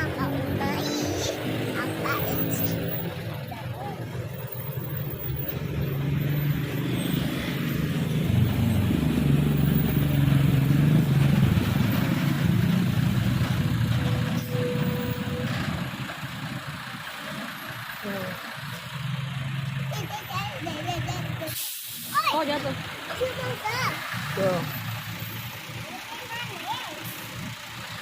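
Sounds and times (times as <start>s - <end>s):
bus engine passing: 0.0s - 28.0s.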